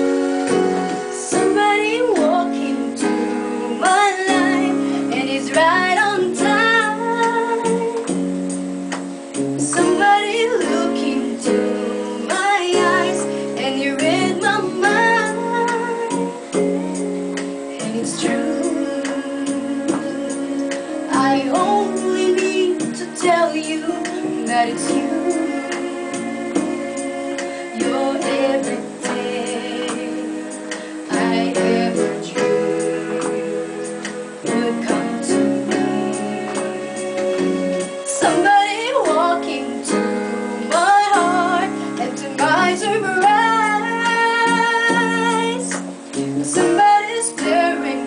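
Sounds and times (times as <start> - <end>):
woman singing slow song: 0.0 - 8.4, 9.5 - 48.0
sustained keyboard chords: 0.0 - 48.0.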